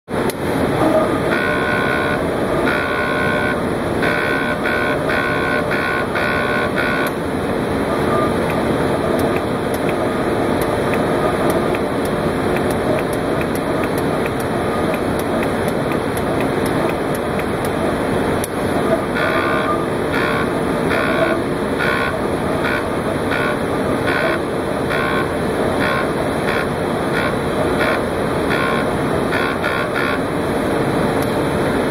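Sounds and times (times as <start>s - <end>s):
steady machine noise: 0.1s - 31.9s
gantry motors whining: 0.6s - 31.3s.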